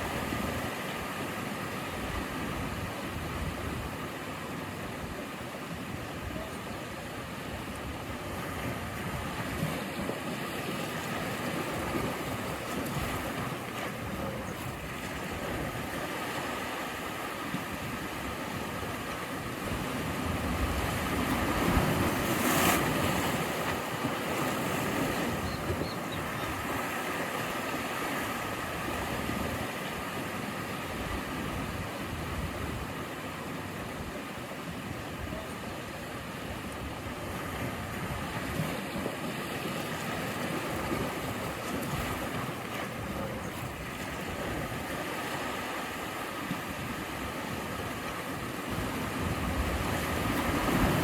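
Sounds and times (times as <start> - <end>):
waves breaking on shore: 0.0 - 51.0.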